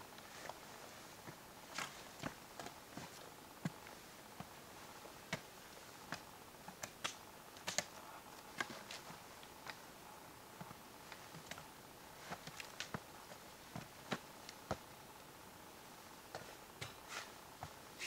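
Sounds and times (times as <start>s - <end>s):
faint steady hiss: 0.0s - 18.0s
footsteps on wooden ladder: 0.2s - 9.8s, 10.5s - 15.0s, 16.2s - 18.0s.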